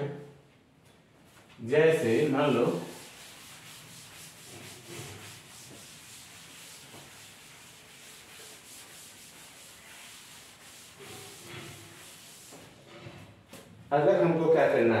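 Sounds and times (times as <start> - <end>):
cloth wiping a chalkboard: 1.3 - 13.7.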